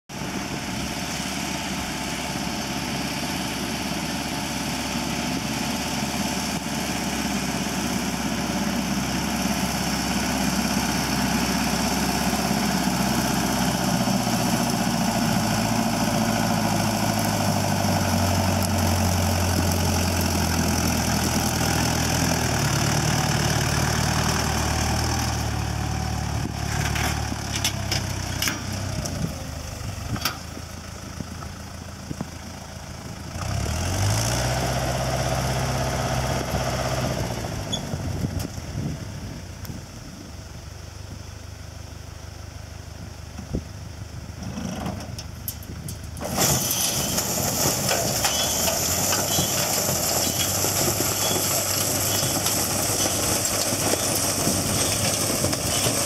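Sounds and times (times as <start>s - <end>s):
tractor diesel engine running: 0.1s - 56.0s.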